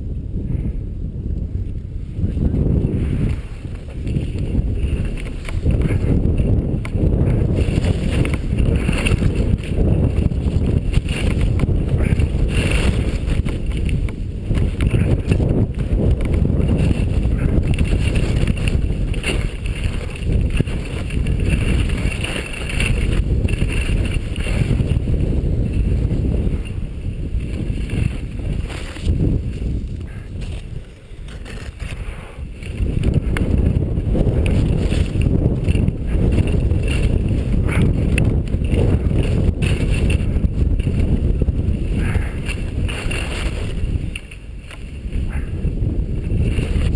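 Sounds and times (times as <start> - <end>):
wind buffeting microphone: 0.0 - 46.9
skis sliding over snow: 2.0 - 46.9.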